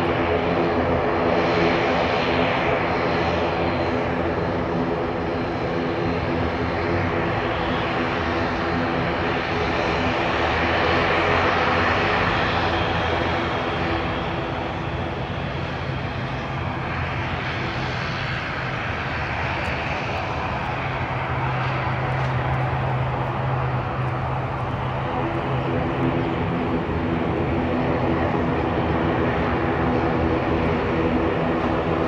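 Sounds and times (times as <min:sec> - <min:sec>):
turboprop aircraft engine drone: 0:00.0 - 0:32.0.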